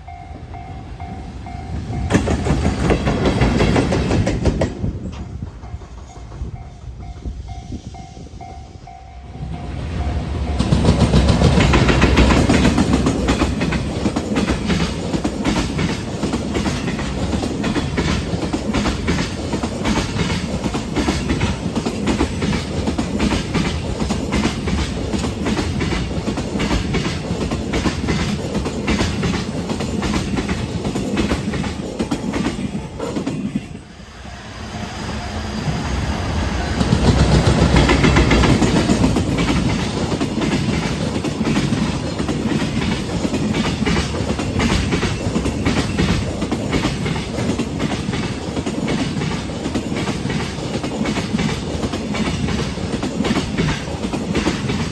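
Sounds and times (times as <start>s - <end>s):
freight train wheels clattering: 0.0s - 34.0s, 35.1s - 54.9s
train rumble: 0.0s - 54.9s.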